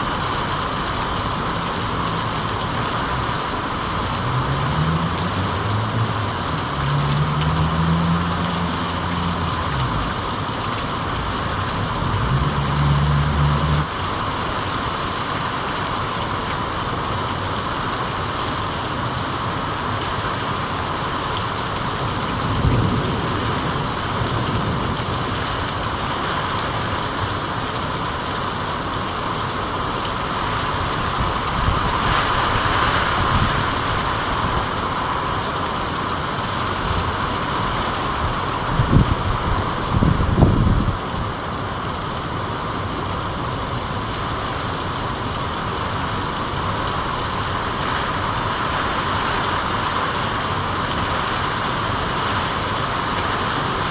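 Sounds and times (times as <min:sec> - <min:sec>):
heavy rainfall hissing: 0:00.0 - 0:53.9.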